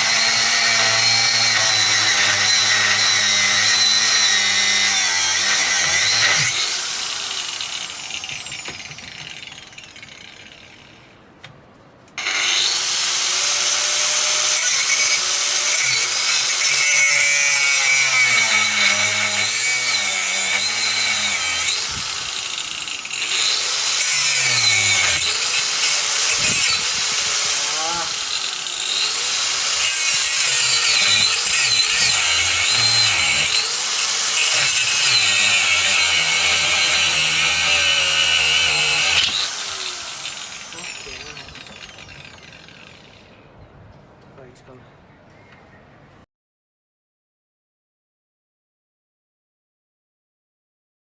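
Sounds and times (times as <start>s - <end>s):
angle grinder cutting metal lock: 0.0s - 10.5s, 12.2s - 43.3s.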